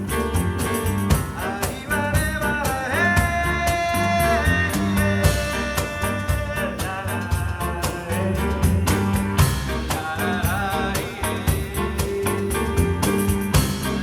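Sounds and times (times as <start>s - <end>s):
hand percussion and cajon: 0.0s - 14.0s
walking bass line: 0.0s - 14.0s.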